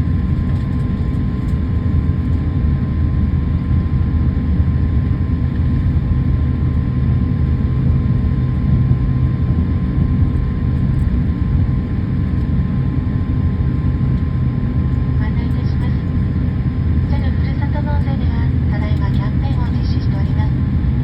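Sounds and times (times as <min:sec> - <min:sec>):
jet airliner rumble in cabin: 0:00.0 - 0:21.0
faint steady hum: 0:00.1 - 0:21.0.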